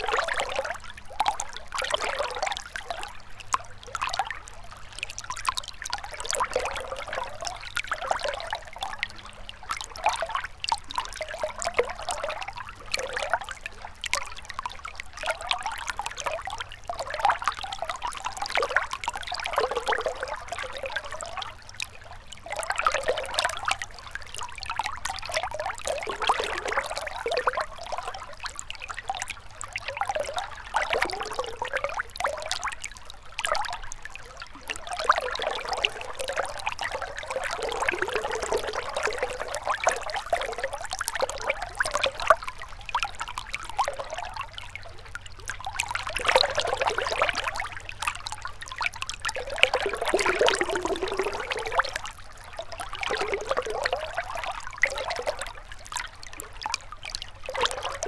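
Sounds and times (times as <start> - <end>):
river water trickling: 0.0 - 58.0.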